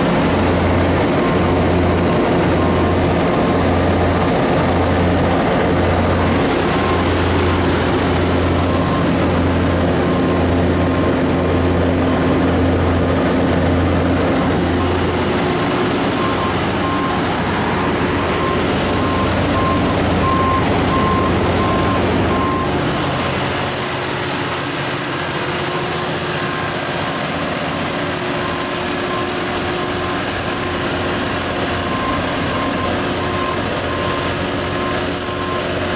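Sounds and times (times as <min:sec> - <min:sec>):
diesel generator droning: 0:00.0 - 0:35.9
high whine: 0:00.0 - 0:35.9.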